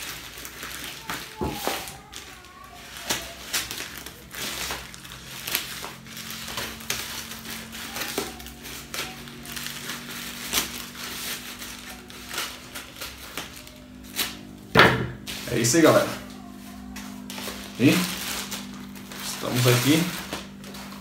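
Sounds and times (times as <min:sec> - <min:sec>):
plastic bag tearing and crinkling: 0:00.0 - 0:21.0.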